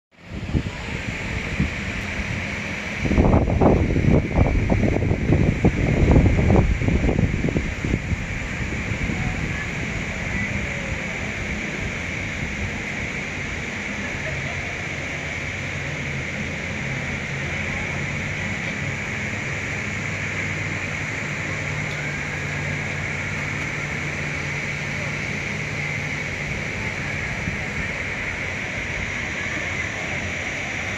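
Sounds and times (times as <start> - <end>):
outdoor background rush: 0.1 - 30.9
wind buffeting microphone: 0.2 - 30.9.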